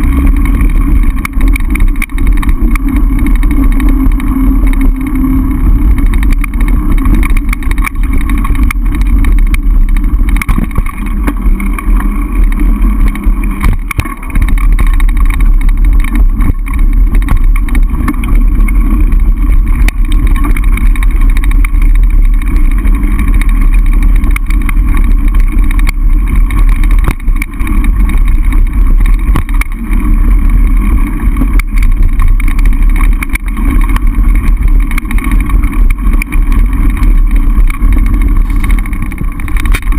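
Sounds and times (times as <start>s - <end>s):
bike knocks and rattles: 0.0s - 39.9s
wind roar on microphone: 0.0s - 39.9s.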